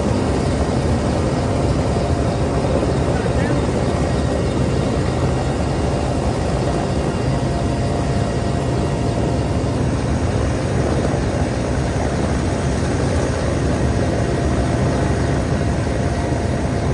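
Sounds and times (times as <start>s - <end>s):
helicopter rotor and engine: 0.0s - 16.9s.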